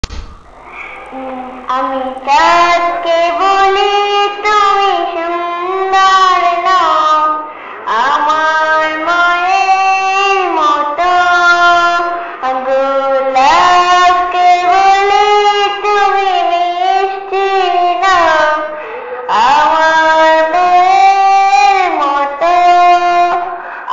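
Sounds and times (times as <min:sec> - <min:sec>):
woman singing unaccompanied: 0:01.1 - 0:23.9.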